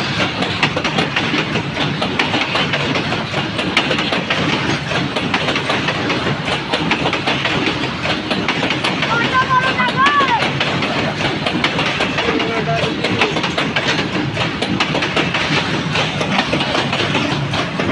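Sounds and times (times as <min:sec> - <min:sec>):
freight train rumbling past: 0:00.0 - 0:17.9
wheels clattering over rails: 0:00.0 - 0:17.9.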